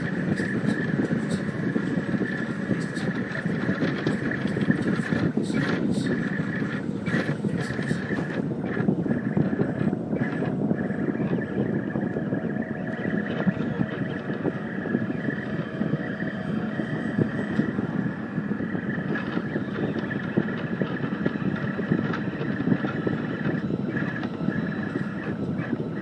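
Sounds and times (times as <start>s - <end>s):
three d printer motors whining: 0.0s - 26.0s.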